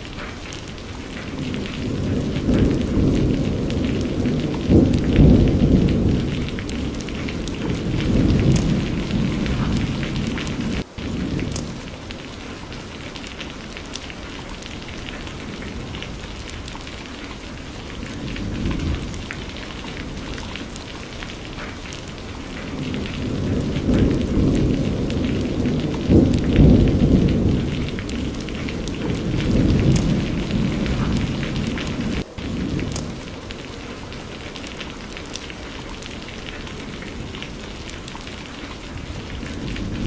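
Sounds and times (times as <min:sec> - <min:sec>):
raindrops ticking: 0:00.0 - 0:40.0
steady rain falling: 0:00.0 - 0:40.0
thunder rumbling: 0:00.0 - 0:40.0.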